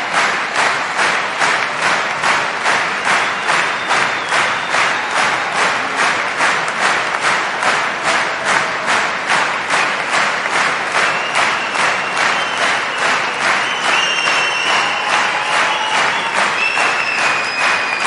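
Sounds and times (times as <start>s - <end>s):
audience clapping in rhythm: 0.0s - 18.0s.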